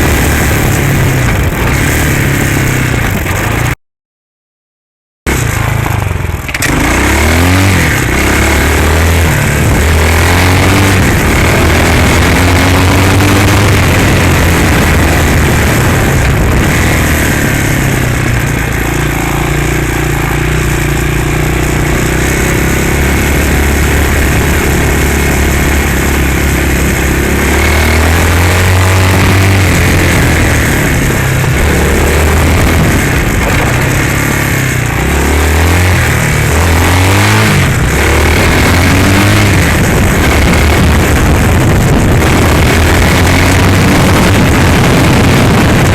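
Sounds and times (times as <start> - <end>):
dirt bike engine revving: 0.0 - 3.8, 5.3 - 45.9.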